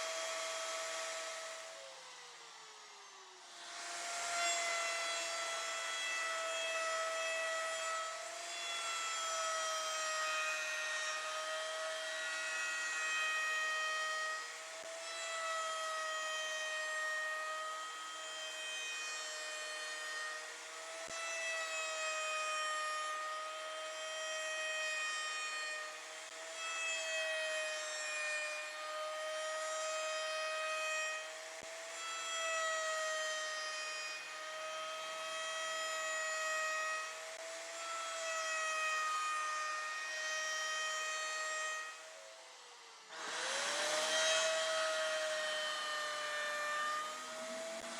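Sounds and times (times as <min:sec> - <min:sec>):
router spindle whining: 0:00.0 - 0:47.9.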